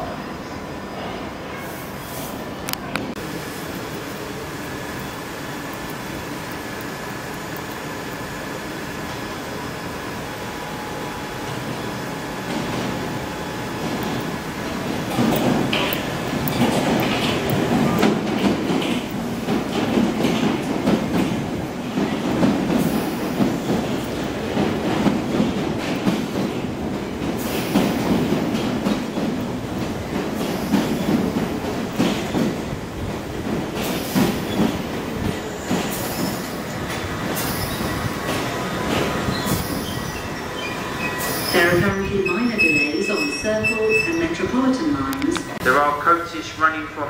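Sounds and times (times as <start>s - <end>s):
train wheels rumbling on rail: 1.0s - 47.0s.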